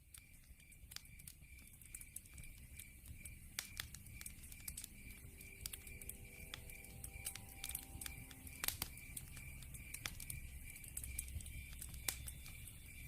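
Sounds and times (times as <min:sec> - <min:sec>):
crickets chirping: 0:00.0 - 0:13.0
wood fire crackling and popping: 0:00.0 - 0:13.0.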